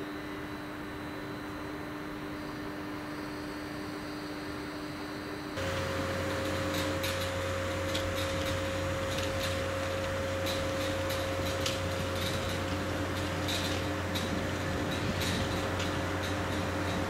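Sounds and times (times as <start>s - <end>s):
train electric hum and whine: 0.0s - 17.0s.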